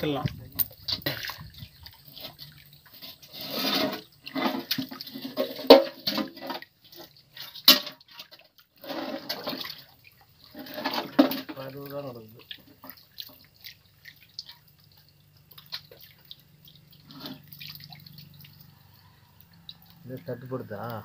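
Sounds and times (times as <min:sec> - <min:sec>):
shallow water splashing: 0:00.0 - 0:21.0.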